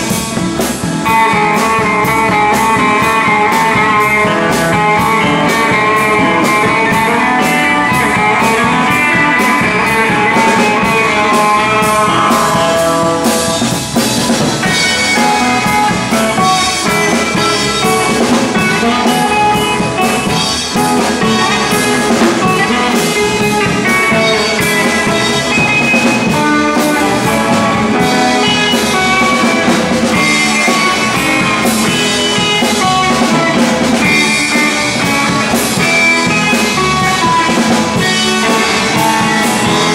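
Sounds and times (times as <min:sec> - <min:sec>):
drum kit beats: 0:00.0 - 0:39.9
electric guitar: 0:00.0 - 0:39.9
rock band playing: 0:00.0 - 0:39.9.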